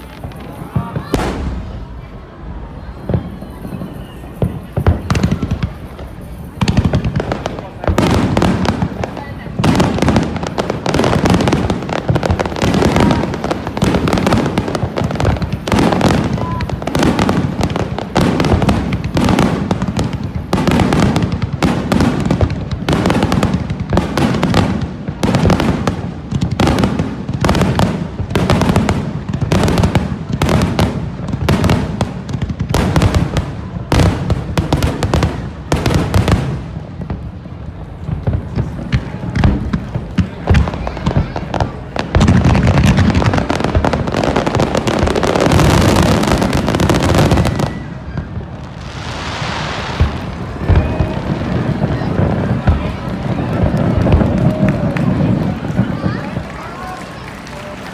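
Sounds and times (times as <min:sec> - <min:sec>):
fireworks bangs: 0:00.0 - 0:57.9
fireworks crackle and rumble: 0:00.0 - 0:57.9.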